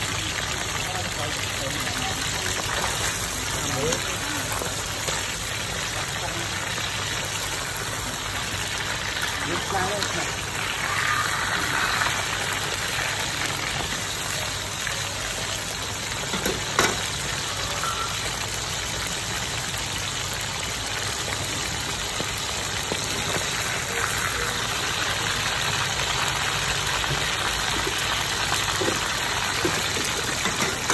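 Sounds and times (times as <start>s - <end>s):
hot oil sizzling: 0.0s - 30.9s.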